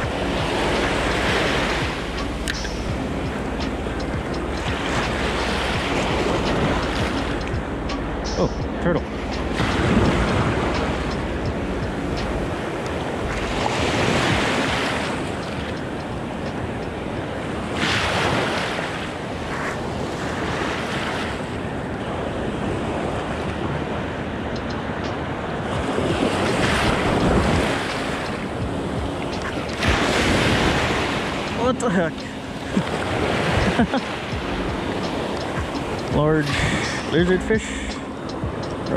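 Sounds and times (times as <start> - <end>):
shallow surf washing in: 0.0 - 38.9
wind buffeting microphone: 0.0 - 38.9.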